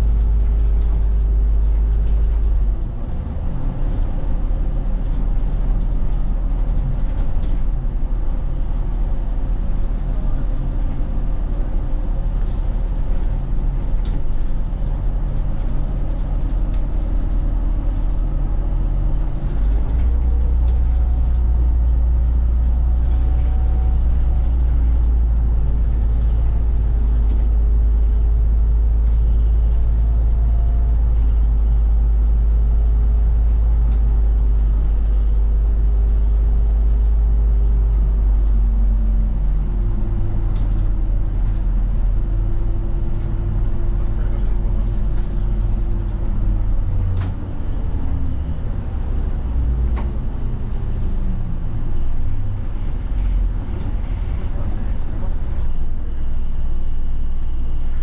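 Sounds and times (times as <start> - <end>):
bus engine drone: 0.0 - 58.0
road rumble: 0.0 - 58.0.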